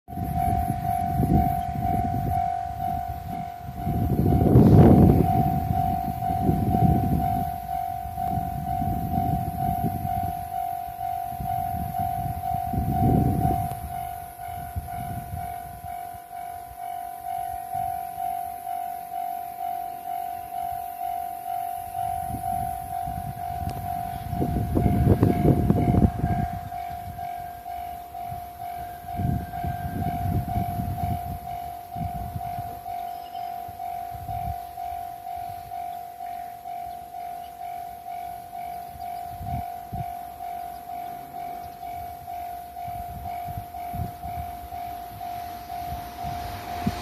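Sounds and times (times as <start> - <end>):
level crossing warning bell: 0.1 - 47.0.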